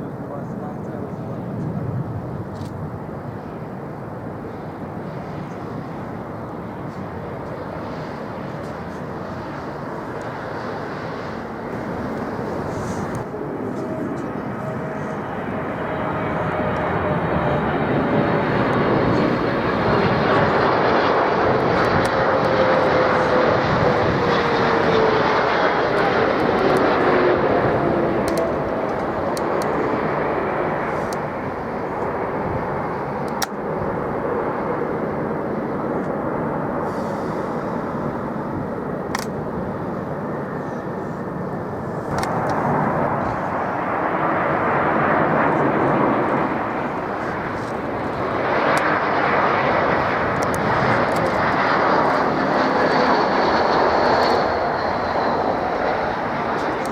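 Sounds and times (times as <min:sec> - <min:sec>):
jet airliner engine roar: 0:00.0 - 0:56.9
jet engine whine falling in pitch: 0:00.0 - 0:56.9.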